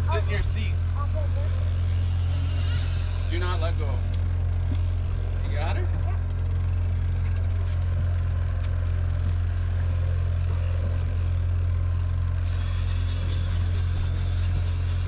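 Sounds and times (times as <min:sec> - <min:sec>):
boat engine humming: 0:00.0 - 0:15.0
high whine: 0:00.0 - 0:15.0.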